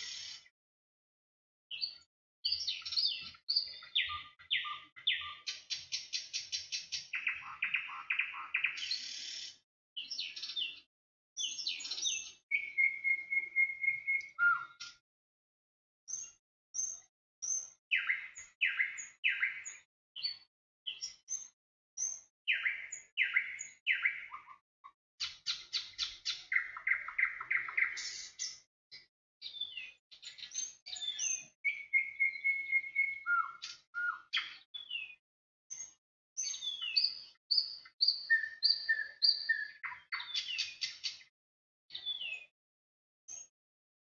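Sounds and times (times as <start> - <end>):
songbird singing: 0.0 - 0.5, 1.7 - 15.0, 16.1 - 41.3, 41.9 - 42.5.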